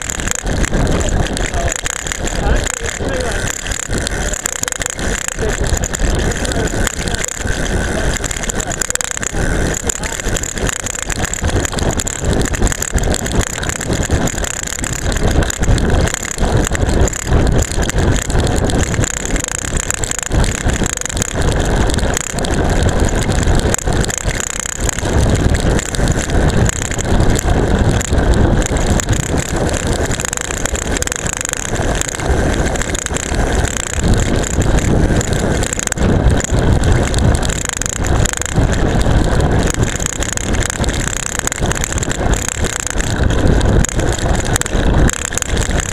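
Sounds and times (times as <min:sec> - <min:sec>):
camera rattling: 0:00.0 - 0:45.9
road noise: 0:00.0 - 0:45.9.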